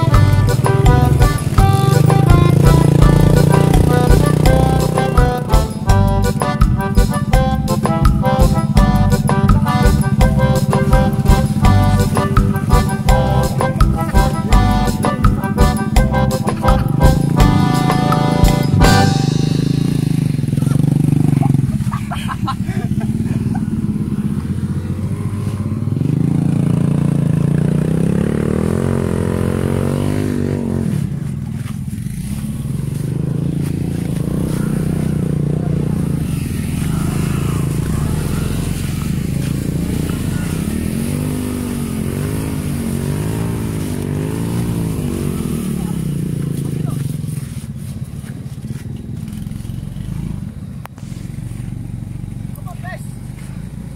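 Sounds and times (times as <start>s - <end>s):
small motorcycle engines revving: 0.0s - 53.9s.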